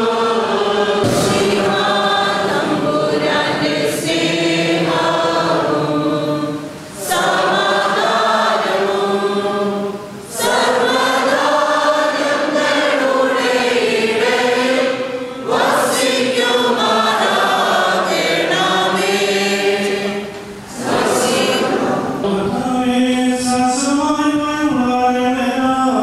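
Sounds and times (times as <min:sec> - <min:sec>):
church choir singing: 0:00.0 - 0:26.0.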